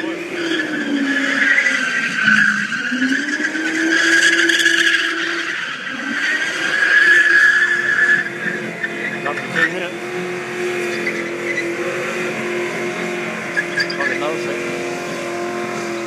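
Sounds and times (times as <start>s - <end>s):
car engine revving high: 0.0s - 16.0s
tyres screeching: 0.0s - 16.0s.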